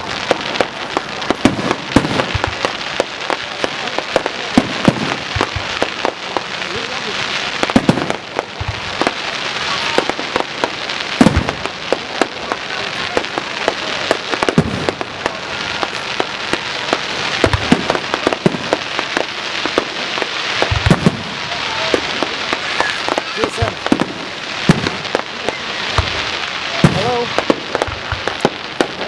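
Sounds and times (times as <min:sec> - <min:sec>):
deep fireworks booms: 0:00.0 - 0:29.0
fireworks bangs: 0:00.0 - 0:29.0
fireworks crackling: 0:00.0 - 0:29.0.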